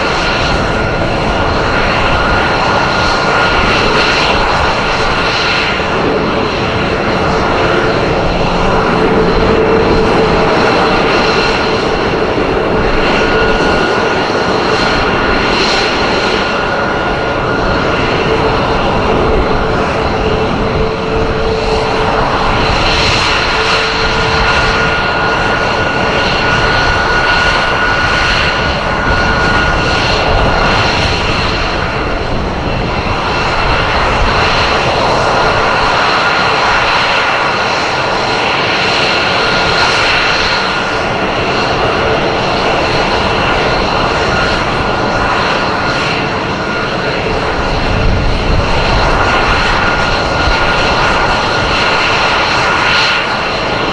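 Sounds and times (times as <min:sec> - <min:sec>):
high engine whine: 0:00.0 - 0:53.9
jet engines running loud: 0:00.0 - 0:53.9.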